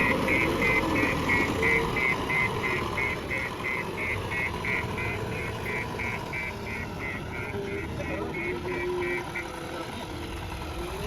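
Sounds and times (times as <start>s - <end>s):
warning beeper short high beeps: 0.0s - 9.5s
diesel engine running: 0.0s - 11.0s.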